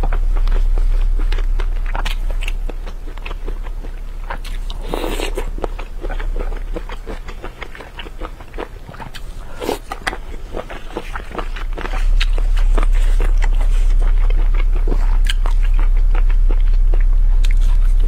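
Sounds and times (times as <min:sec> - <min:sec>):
wet chewing: 0:00.0 - 0:18.0.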